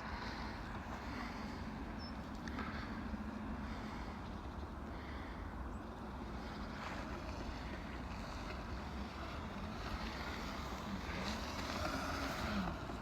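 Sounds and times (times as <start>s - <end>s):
faint electric motor whine: 0.0s - 13.0s.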